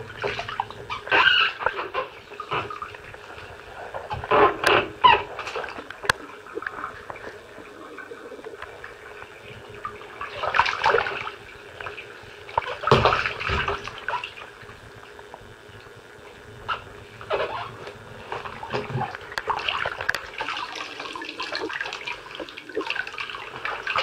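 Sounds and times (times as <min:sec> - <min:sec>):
water sloshing in bathtub: 0:00.0 - 0:24.0.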